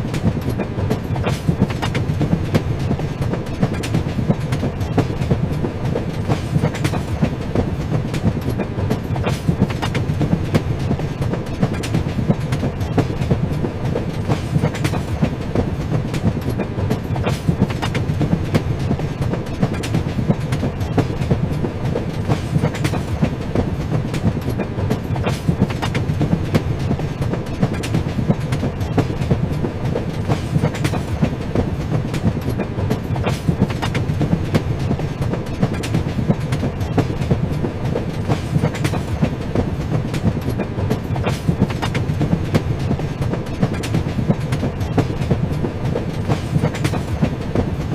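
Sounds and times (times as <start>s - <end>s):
train rumbling: 0.0s - 47.9s
wheels clattering over track: 0.0s - 47.9s.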